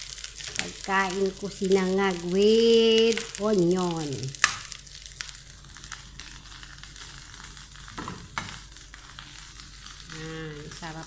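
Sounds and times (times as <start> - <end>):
rice sizzling in a frying pan: 0.0 - 11.0.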